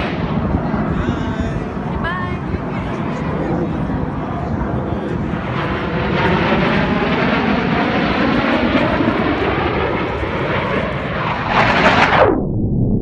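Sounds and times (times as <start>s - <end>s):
airplane flying past: 0.0s - 12.4s
muffled low rumble: 0.0s - 13.0s.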